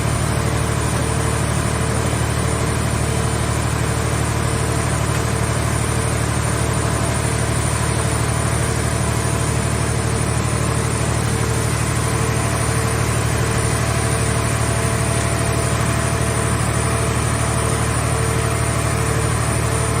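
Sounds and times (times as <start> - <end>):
baler engine idling: 0.0 - 20.0.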